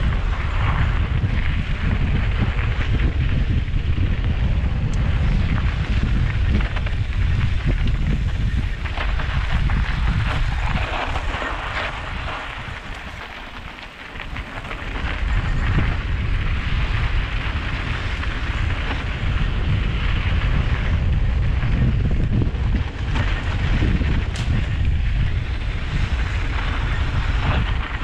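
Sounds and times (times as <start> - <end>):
bike tyres rattling over rough ground: 0.0 - 28.0
wind buffeting microphone: 0.0 - 28.0.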